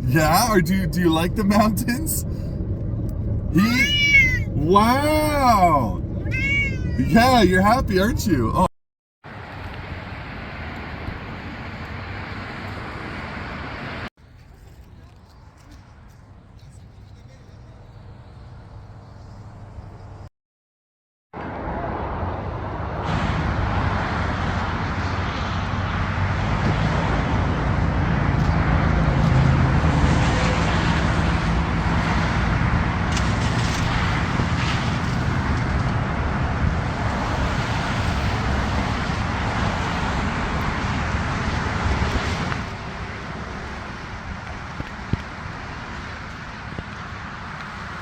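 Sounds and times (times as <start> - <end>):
tyre and road noise: 0.0 - 20.3, 21.4 - 48.0.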